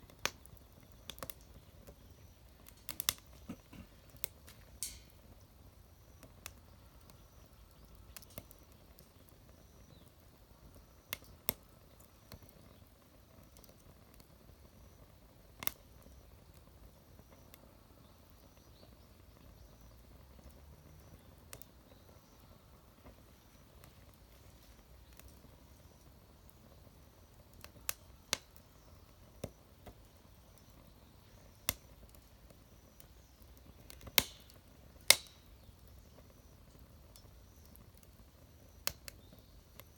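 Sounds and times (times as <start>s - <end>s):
wood fire pops and snaps: 0.0s - 39.9s.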